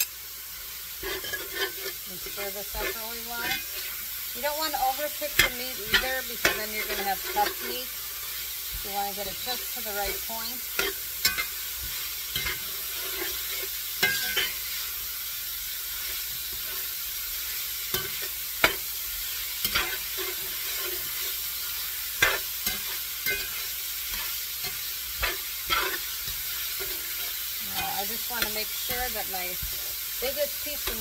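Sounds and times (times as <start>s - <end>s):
food sizzling in a pan: 0.0s - 31.0s
utensil scraping a pan: 0.9s - 15.0s, 15.8s - 31.0s.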